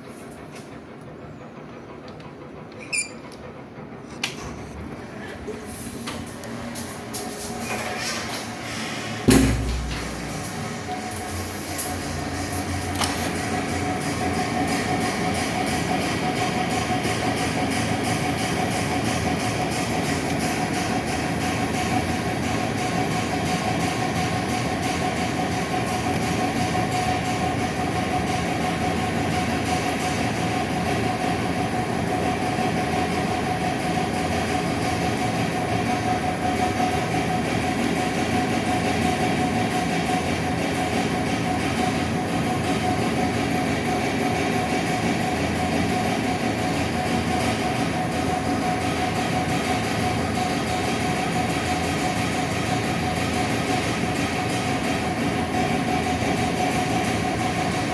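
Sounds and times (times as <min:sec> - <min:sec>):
steady mechanical hum: 0:00.0 - 0:57.9.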